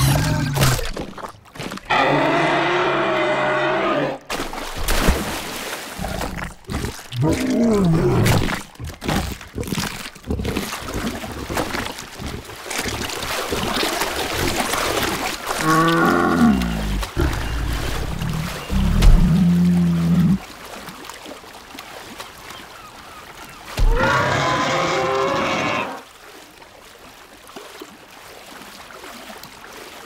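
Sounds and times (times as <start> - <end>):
splashing water: 0.0 - 3.4, 4.2 - 30.0.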